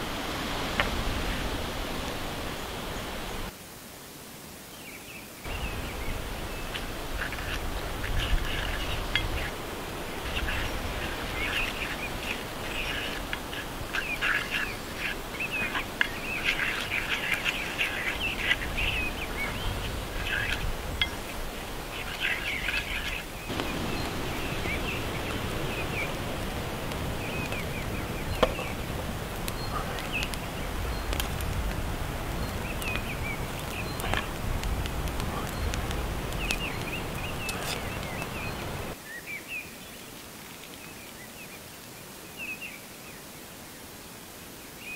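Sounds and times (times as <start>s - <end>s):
small birds chirping: 4.8s - 43.8s.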